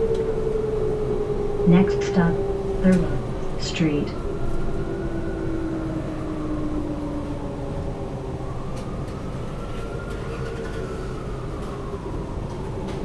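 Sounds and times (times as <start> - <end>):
bus drivetrain and road rumble: 0.0 - 13.0
bus whine: 0.0 - 13.0.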